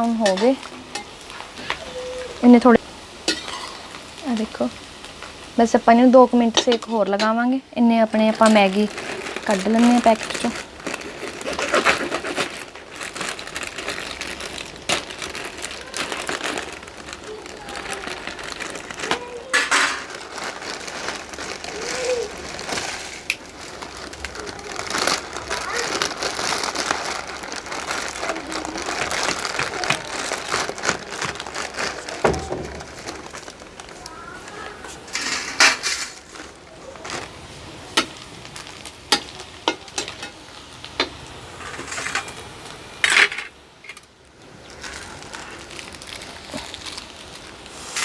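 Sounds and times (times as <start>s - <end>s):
plastic packet crinkling: 6.4s - 42.7s, 43.9s - 48.0s.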